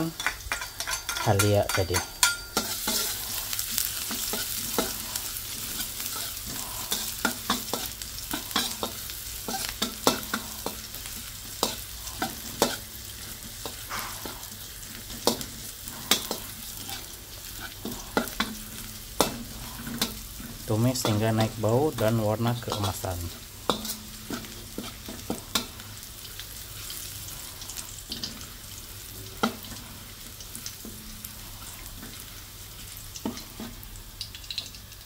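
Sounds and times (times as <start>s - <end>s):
garlic sizzling in hot oil: 0.0s - 35.0s
metal spatula scraping a wok: 0.5s - 32.6s, 33.2s - 33.8s.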